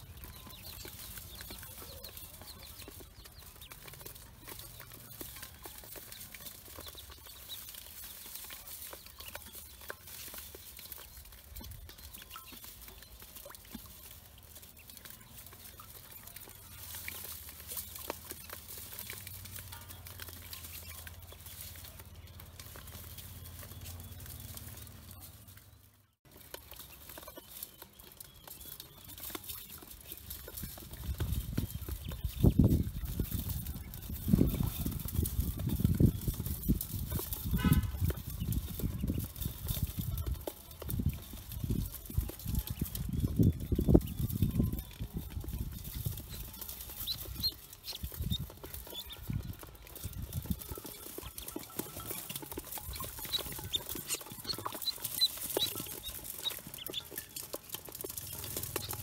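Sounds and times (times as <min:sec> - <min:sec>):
ducklings pecking in metal basin: 0:00.0 - 0:59.0.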